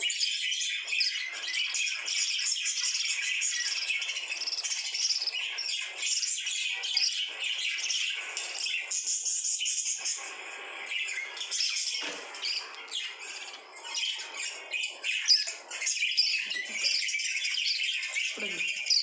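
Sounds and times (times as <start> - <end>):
lovebirds chattering: 0.0 - 19.0.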